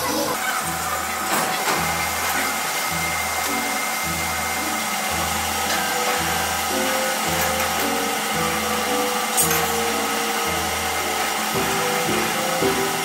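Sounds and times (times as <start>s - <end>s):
faint background music: 0.0s - 13.0s
metal lathe running: 0.0s - 13.0s.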